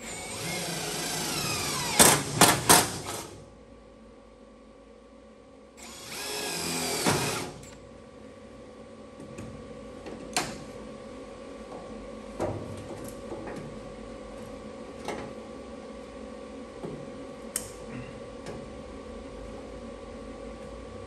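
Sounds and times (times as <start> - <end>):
shop equipment hum: 0.0 - 21.0.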